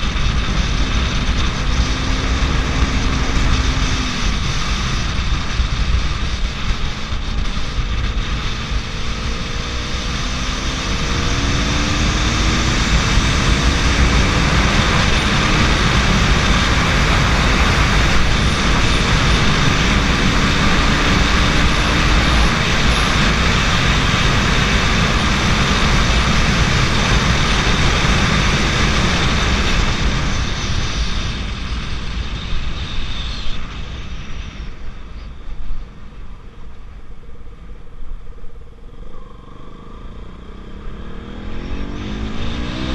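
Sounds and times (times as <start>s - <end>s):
wind noise rushing: 0.0s - 42.9s.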